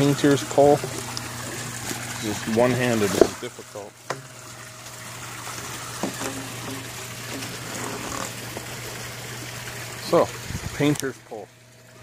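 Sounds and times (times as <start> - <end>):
pond water trickling: 0.0 - 12.0.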